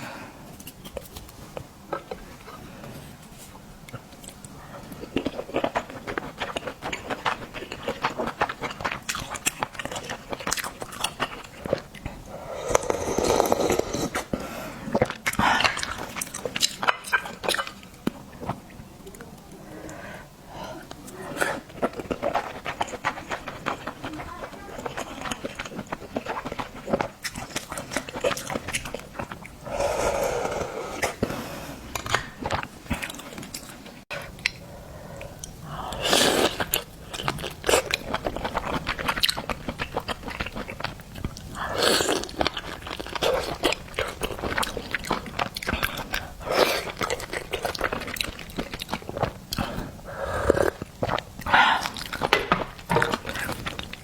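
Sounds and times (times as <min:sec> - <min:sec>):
person chewing food: 0:03.8 - 0:20.0, 0:20.7 - 0:54.0.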